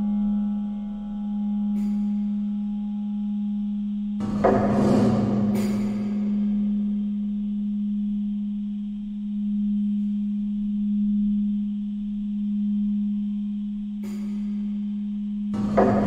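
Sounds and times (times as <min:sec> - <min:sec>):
low drone tone: 0:00.0 - 0:16.0.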